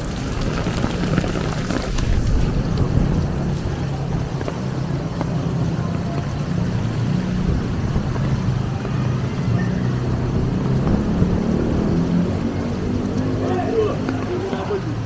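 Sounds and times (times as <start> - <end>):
rain on the street: 0.0 - 15.0
vehicle engine humming: 0.0 - 15.0.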